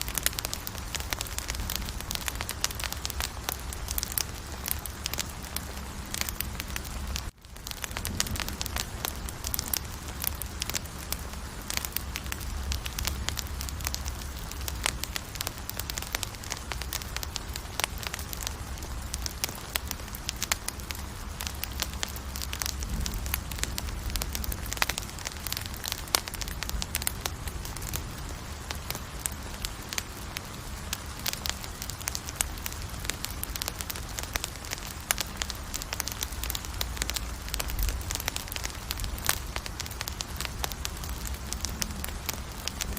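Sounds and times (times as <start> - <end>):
campfire crackling and popping: 0.0 - 42.9
low rumble of fire: 0.0 - 42.9.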